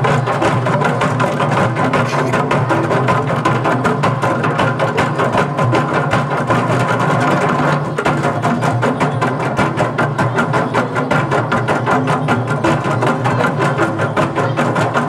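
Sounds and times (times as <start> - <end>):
drum ensemble playing fast rhythm: 0.0 - 15.0.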